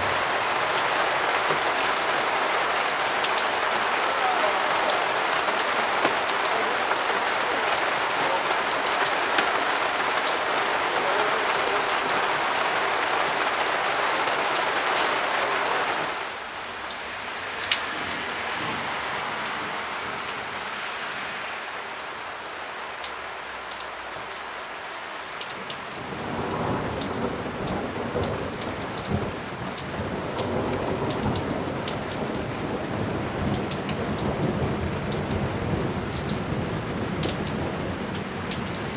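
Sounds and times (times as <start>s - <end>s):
heavy rain pouring: 0.0s - 38.9s
raindrops ticking on surfaces: 0.0s - 38.9s.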